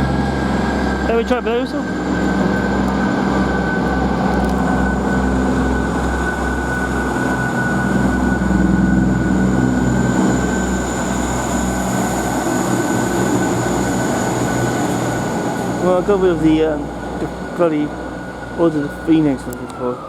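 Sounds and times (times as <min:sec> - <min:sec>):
diesel train engine drone: 0:00.0 - 0:20.0
high whine: 0:00.0 - 0:20.0.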